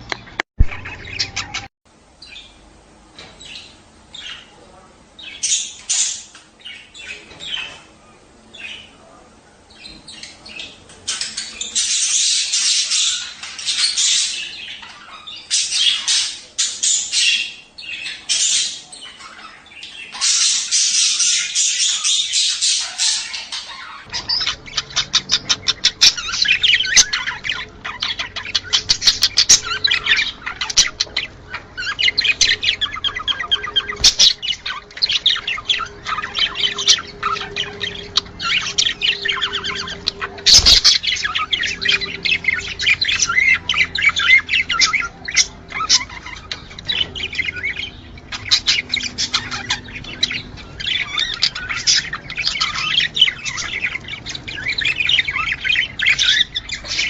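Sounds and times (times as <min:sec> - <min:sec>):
budgerigars chattering: 0:00.0 - 0:02.6, 0:03.2 - 0:57.0.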